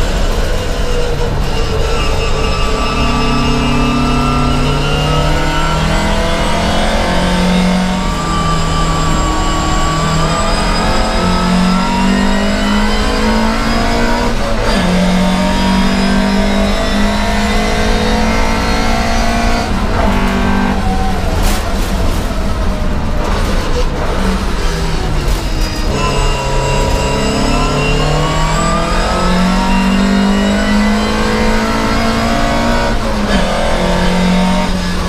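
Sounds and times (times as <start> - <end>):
racing car engine at high revs: 0.0 - 35.0.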